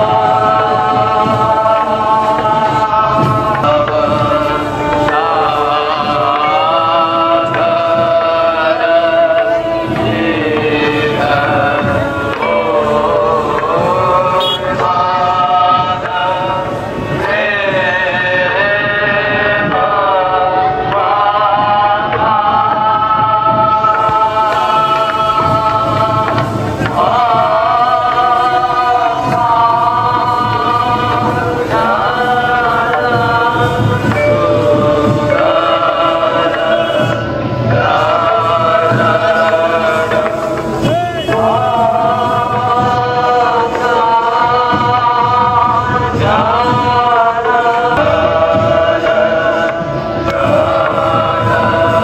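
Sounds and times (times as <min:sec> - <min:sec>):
choir singing held notes: 0:00.0 - 0:52.0.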